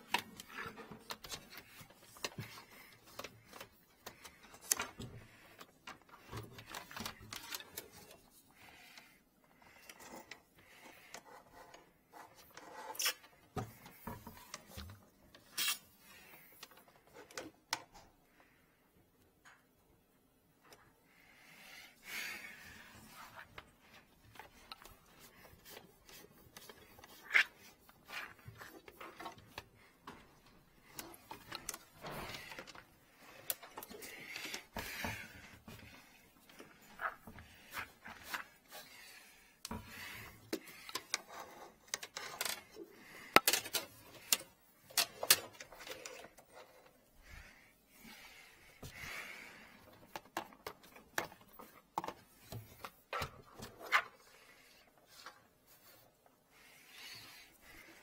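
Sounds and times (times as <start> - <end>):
cable clicking and scraping in drain: 0.0 - 18.2, 22.4 - 58.0.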